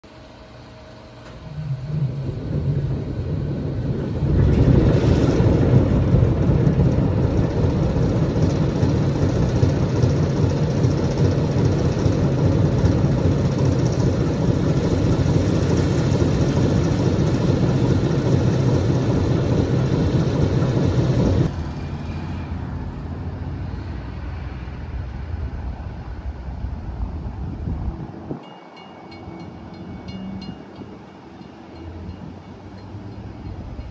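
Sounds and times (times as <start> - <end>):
diesel locomotive engine running: 0.0 - 33.9
low steady rumble: 0.1 - 28.4.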